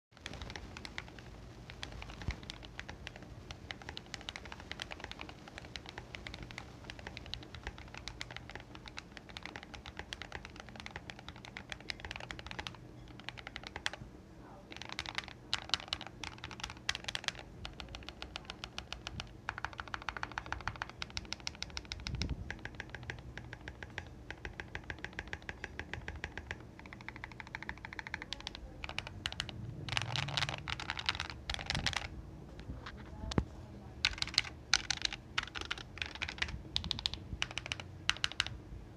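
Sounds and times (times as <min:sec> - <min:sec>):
mechanical keyboard typing: 0:00.2 - 0:14.0, 0:14.7 - 0:33.4, 0:34.0 - 0:38.6.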